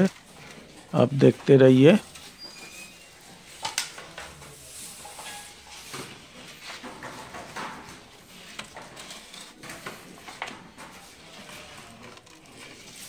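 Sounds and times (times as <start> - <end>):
wooden trays scraping oven floor: 0.0 - 13.0.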